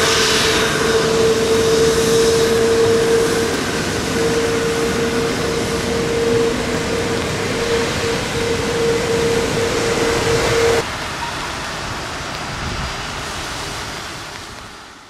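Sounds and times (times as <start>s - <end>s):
jet engines whining: 0.0s - 12.2s
loud rushing noise: 0.0s - 13.9s.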